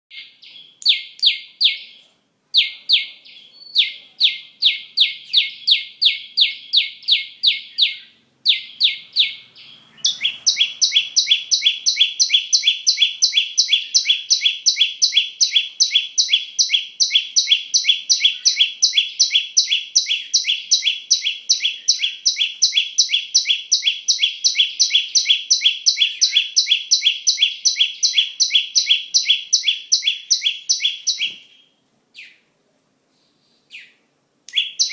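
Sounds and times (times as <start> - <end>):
small songbird singing: 0.1 - 32.5, 33.1 - 34.9.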